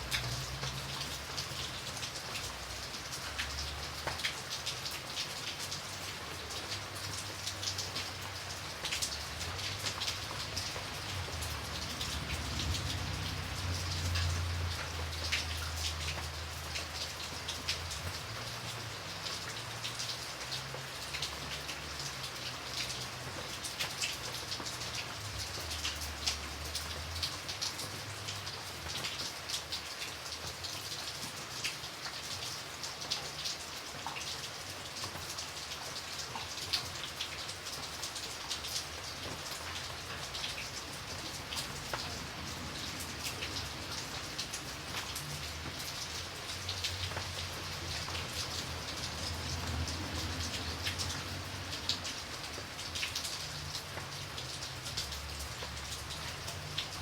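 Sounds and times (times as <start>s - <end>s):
rain pattering: 0.0s - 57.0s
raindrops tapping on a surface: 0.0s - 57.0s.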